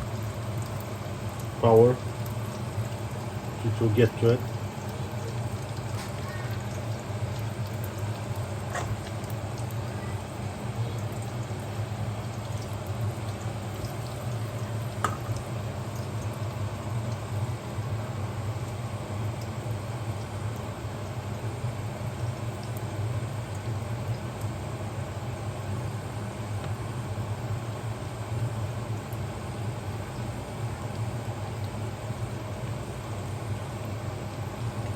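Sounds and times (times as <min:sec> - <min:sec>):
faint oil sizzle: 0:00.0 - 0:34.9.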